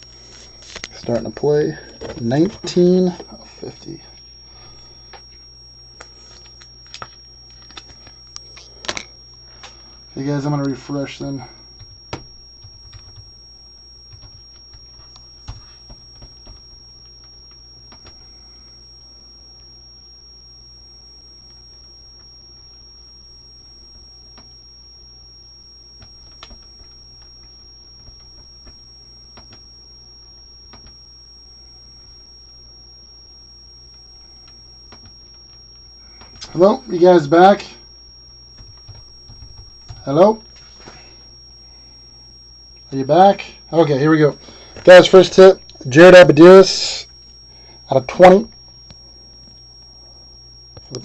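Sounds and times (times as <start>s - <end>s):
high-pitched whine: 0.0s - 51.0s
low electrical hum: 0.0s - 51.0s.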